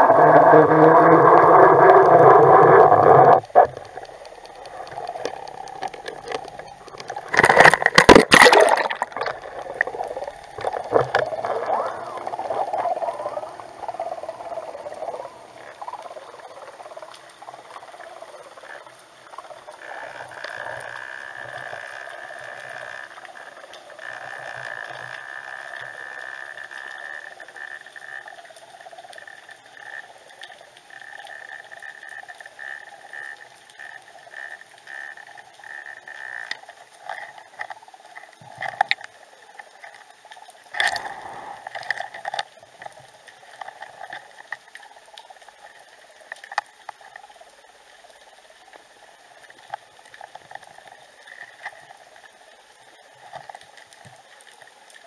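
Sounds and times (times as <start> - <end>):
underwater bubbling: 0.0 - 55.0.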